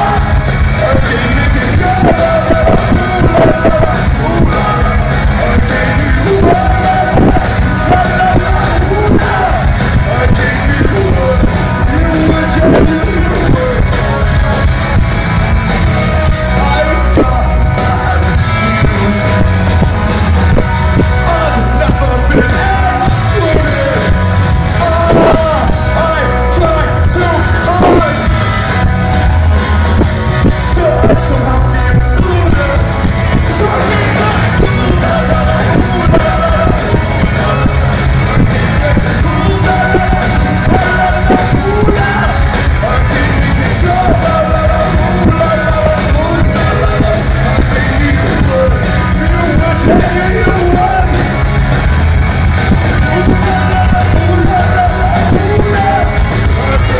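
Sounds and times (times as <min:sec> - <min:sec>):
loud music with singing: 0:00.0 - 0:56.9
steady bass line: 0:00.0 - 0:56.9.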